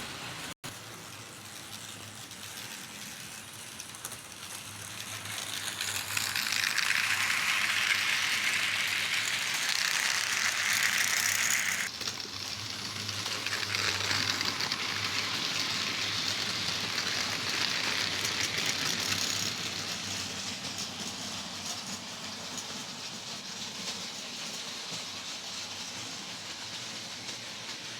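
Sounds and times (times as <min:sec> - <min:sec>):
model train wagons clattering: 0:00.7 - 0:24.7.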